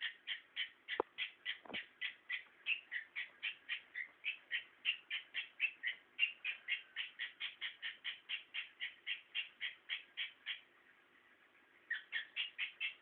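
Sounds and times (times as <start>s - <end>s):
pet animal calling: 0.0s - 10.7s, 11.9s - 13.0s.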